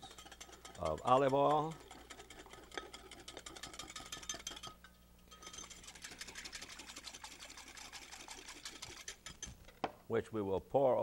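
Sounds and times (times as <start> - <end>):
whisk clicking against glass: 0.0 - 9.6.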